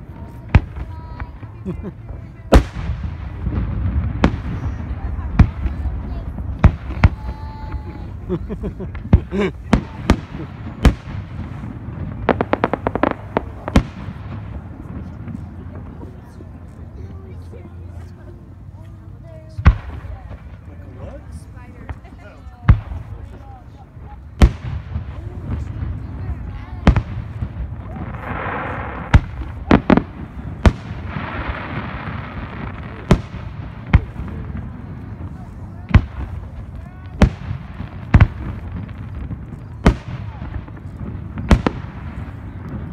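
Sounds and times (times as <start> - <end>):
fireworks bangs: 0.0 - 16.8, 19.5 - 42.9
crackling fireworks pops: 0.0 - 20.8, 21.6 - 42.9.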